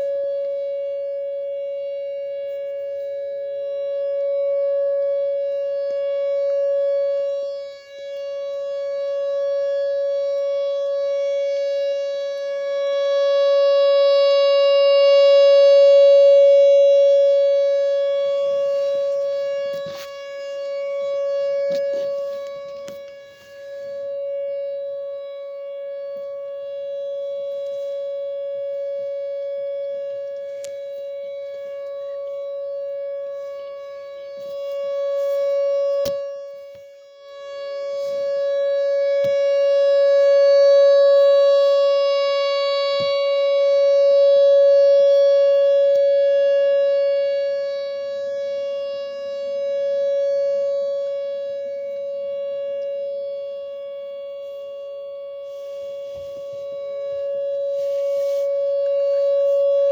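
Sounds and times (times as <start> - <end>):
warning siren steady tone: 0.0 - 59.9.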